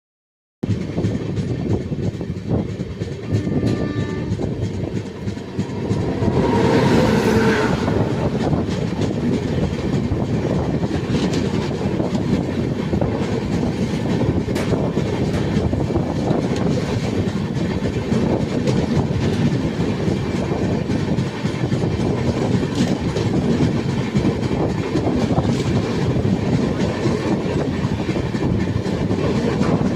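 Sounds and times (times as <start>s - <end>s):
train wheels clattering over rail joints: 0.6s - 29.9s.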